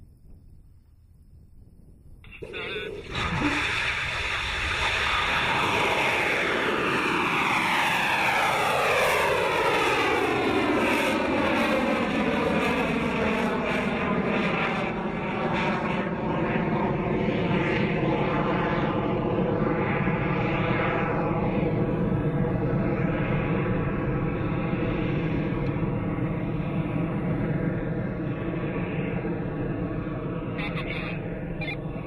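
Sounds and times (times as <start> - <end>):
rocket engine roaring: 2.2 - 32.0.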